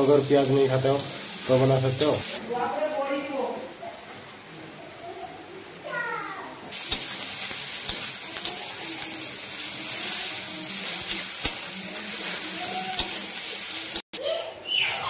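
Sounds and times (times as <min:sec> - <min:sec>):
vegetables sizzling in hot oil: 0:00.0 - 0:05.0, 0:06.5 - 0:14.2.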